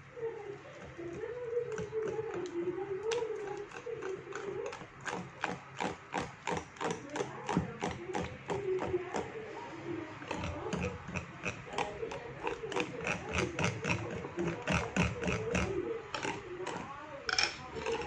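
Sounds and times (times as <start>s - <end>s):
hand whisk beating batter: 0.0s - 18.0s
whisk wires clicking on bowl: 0.0s - 18.0s.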